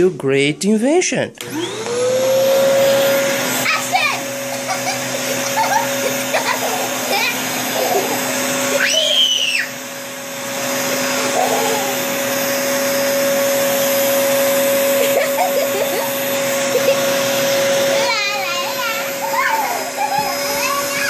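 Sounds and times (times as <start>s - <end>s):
vacuum cleaner running: 1.4s - 21.0s.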